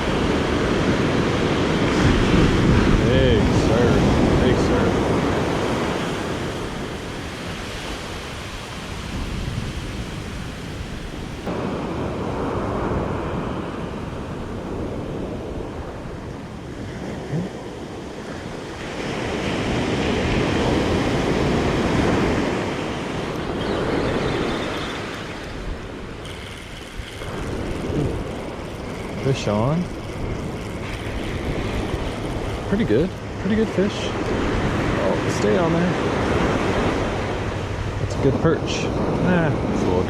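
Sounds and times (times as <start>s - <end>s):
ocean surf breaking: 0.0s - 40.0s
wind on microphone: 0.0s - 40.0s.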